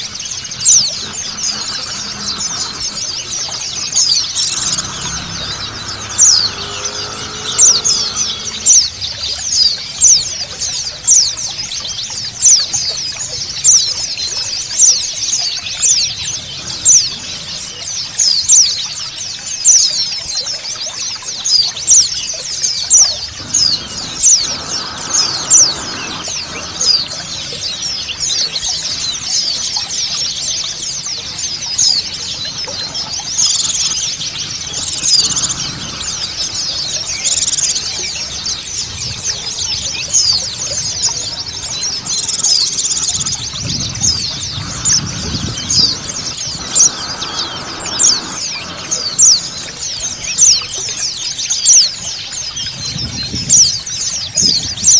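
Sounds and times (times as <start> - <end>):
running water: 0.0 - 54.9
small birds chirping rapidly: 0.0 - 54.9.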